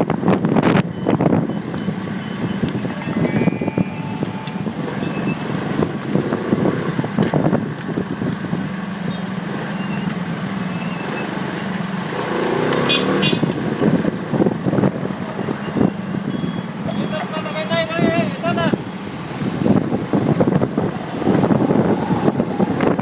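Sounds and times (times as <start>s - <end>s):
road and traffic noise: 0.0s - 23.0s.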